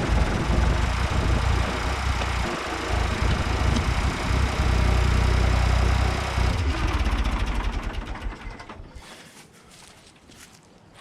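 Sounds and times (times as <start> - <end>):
tractor engine running and shutting off: 0.0 - 9.0.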